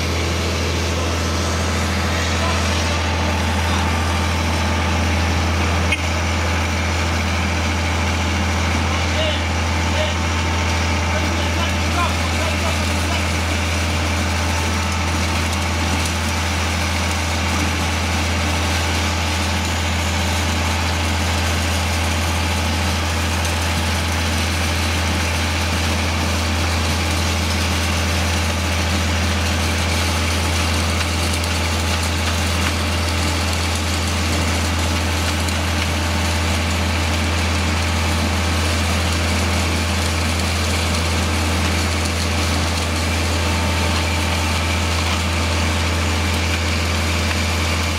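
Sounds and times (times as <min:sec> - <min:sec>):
truck engine droning: 0:00.0 - 0:47.9.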